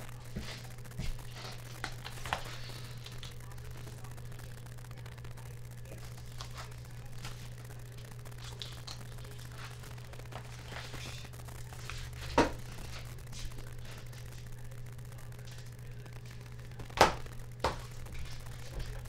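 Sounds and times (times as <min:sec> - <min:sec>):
faint rustling and crinkling: 0:00.0 - 0:16.8
steady low hum: 0:00.0 - 0:19.0.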